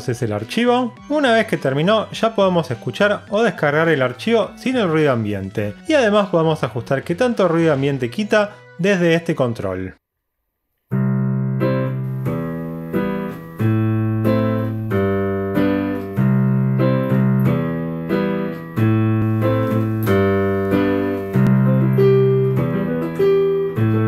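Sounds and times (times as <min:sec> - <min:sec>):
piano notes and chords: 0:00.0 - 0:09.6, 0:10.9 - 0:24.0.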